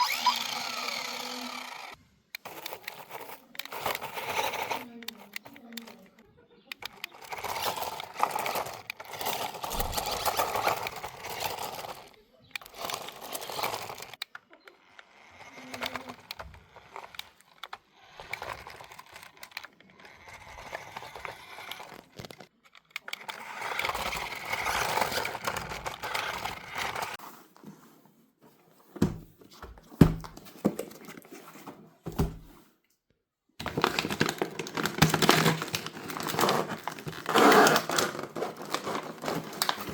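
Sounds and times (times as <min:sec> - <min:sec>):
crinkling and rustling: 0:00.0 - 0:33.0, 0:33.6 - 0:39.9.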